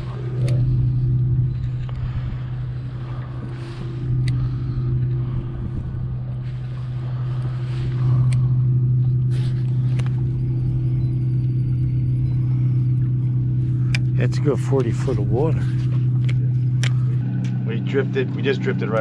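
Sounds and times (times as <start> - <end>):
outboard motor idling: 0.0 - 19.0.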